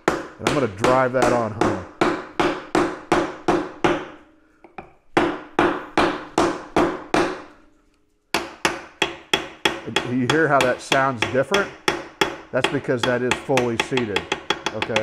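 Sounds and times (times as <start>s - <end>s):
hammer knocking on wood block: 0.0s - 7.5s, 8.4s - 15.0s.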